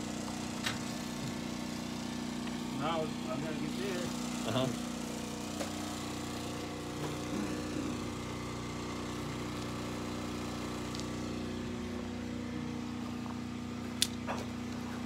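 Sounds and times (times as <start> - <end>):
small motor droning: 0.0 - 15.0.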